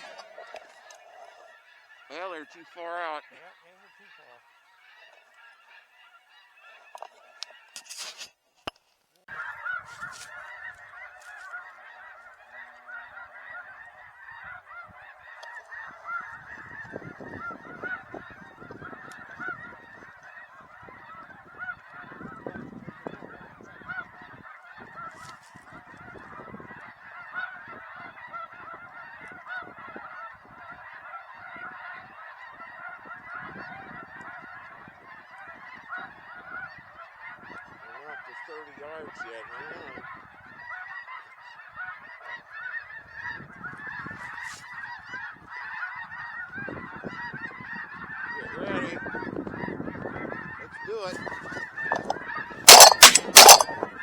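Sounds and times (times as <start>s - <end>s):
geese honking chorus: 0.0s - 8.4s, 9.3s - 54.0s.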